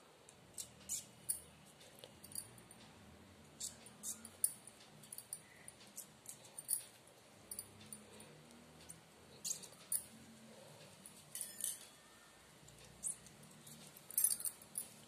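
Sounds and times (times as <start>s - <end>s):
faint rustles and light clicks: 0.2s - 12.0s, 12.6s - 15.0s.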